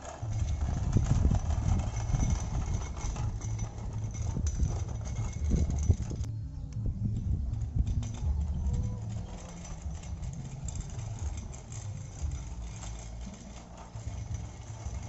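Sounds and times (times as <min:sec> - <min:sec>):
toy truck motor rumbling: 0:00.0 - 0:15.0.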